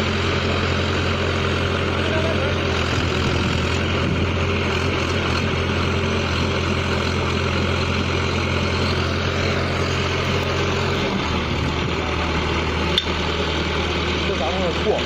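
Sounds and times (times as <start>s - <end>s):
drilling rig engine running: 0.0s - 15.0s.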